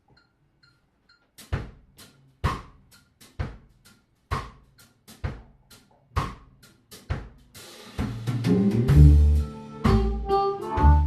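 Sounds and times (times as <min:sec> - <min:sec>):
drum kit steady beat: 0:00.0 - 0:11.0.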